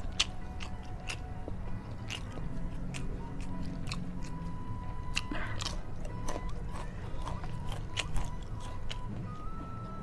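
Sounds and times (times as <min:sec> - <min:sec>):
chewing and mouth sounds: 0:00.0 - 0:10.0.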